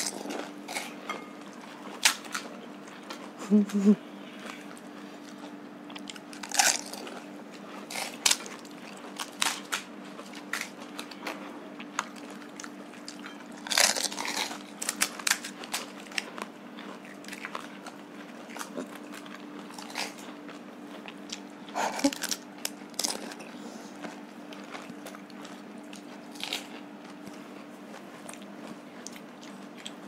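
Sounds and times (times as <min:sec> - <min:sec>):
crunching crisp shells: 0:00.0 - 0:03.2, 0:04.4 - 0:30.0
faint low hum: 0:00.0 - 0:30.0.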